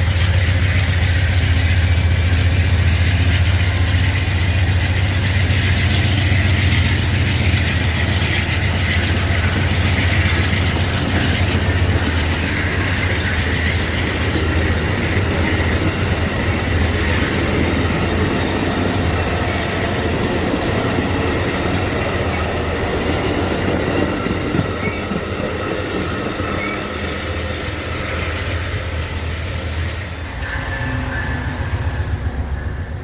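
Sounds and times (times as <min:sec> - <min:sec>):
passenger train rumbling past: 0:00.0 - 0:33.0.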